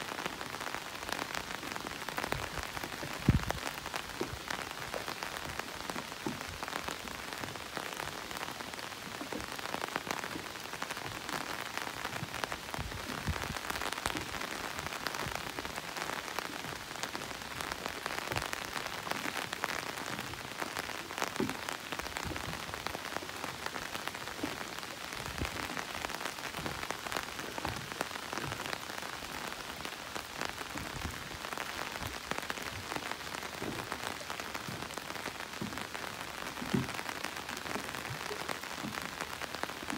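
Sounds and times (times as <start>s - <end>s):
raindrops striking: 0.0s - 39.9s
steady rain falling: 0.0s - 39.9s.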